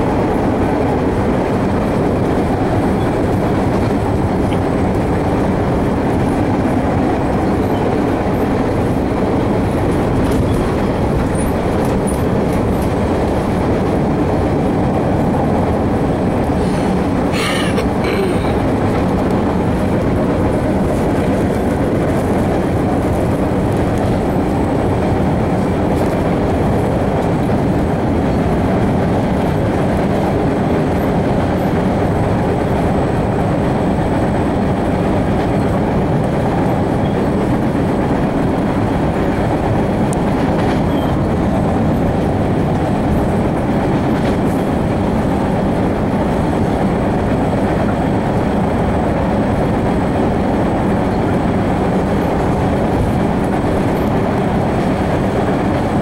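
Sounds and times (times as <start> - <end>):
subway wheels rumbling on rails: 0.0 - 56.0.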